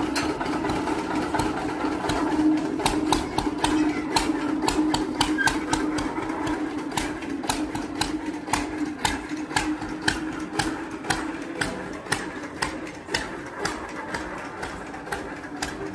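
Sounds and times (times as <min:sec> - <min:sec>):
juice machine motor hum: 0:00.0 - 0:15.9.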